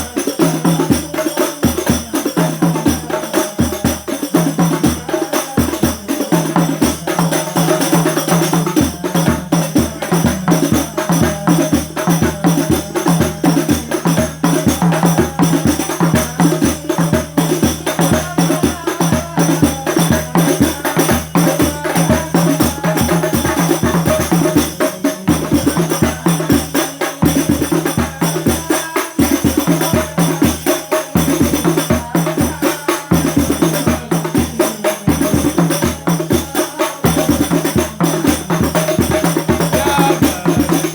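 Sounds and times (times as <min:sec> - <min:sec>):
frame drums: 0:00.0 - 0:40.9.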